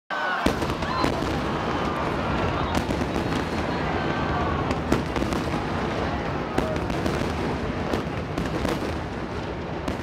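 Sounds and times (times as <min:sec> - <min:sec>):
firework bangs: 0:00.4 - 0:10.0.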